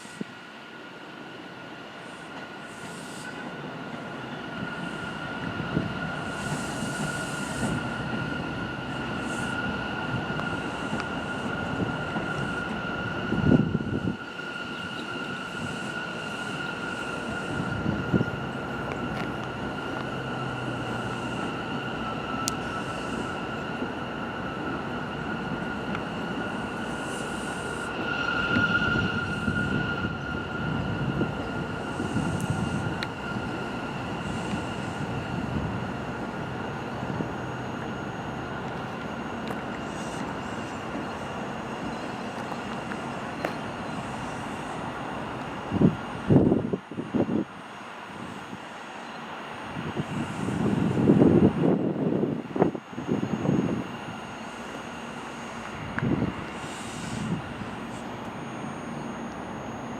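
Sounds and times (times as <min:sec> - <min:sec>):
steady high-pitched tone: 0:00.0 - 0:59.9
subway train on tracks: 0:00.0 - 0:59.9.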